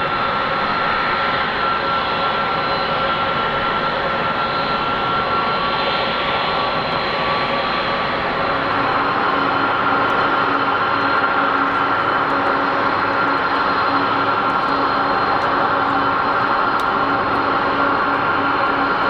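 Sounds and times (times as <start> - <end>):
jet engine roar and whine: 0.0 - 19.0.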